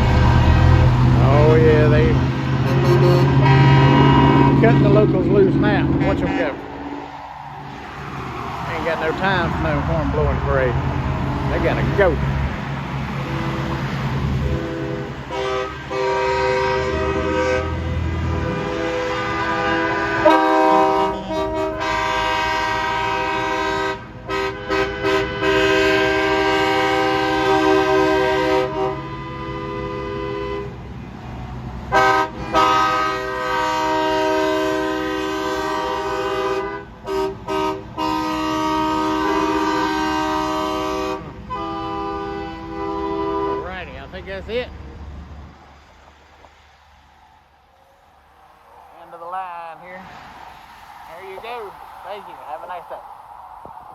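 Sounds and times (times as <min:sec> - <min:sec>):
truck horns blowing: 0:00.0 - 0:07.8, 0:08.4 - 0:44.6
truck engines rumbling: 0:00.0 - 0:53.9.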